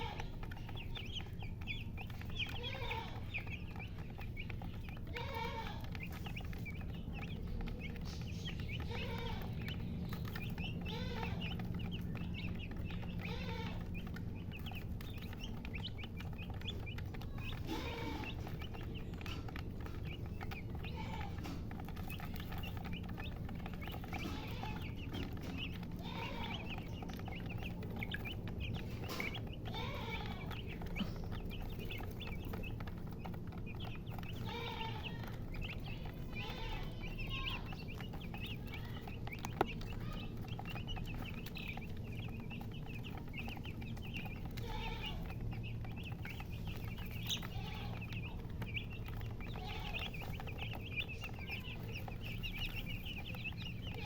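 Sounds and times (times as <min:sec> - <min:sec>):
chicks peeping: 0:00.0 - 0:54.0
hen clucking: 0:00.0 - 0:54.0.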